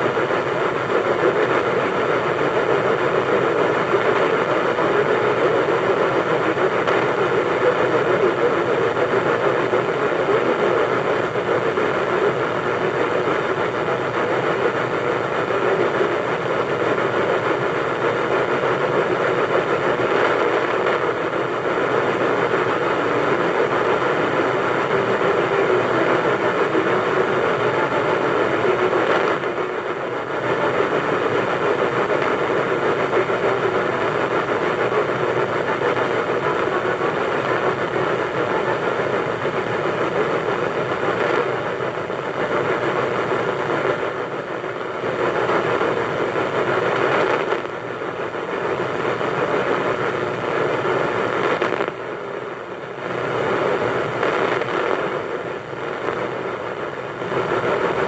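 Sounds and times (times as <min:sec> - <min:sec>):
radio static hiss and crackle: 0:00.0 - 0:58.0.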